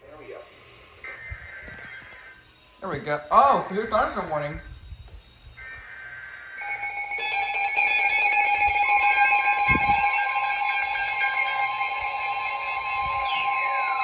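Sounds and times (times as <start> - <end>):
high-pitched data tones: 0.3 - 14.0
electronic alert tones: 1.0 - 14.0.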